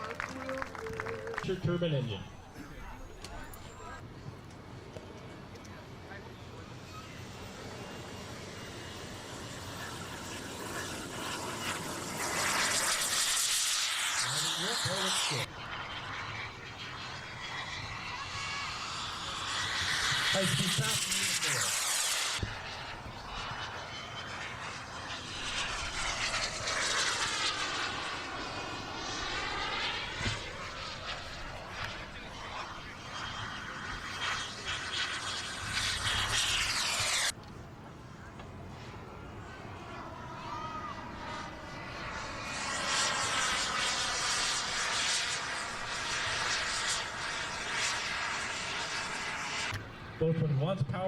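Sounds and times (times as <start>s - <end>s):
model jet whooshing past: 6.1s - 37.4s, 38.5s - 50.3s.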